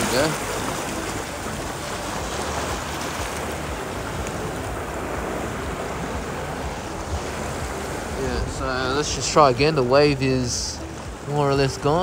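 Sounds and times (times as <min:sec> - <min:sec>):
ocean surf washing over rocks: 0:00.0 - 0:12.0.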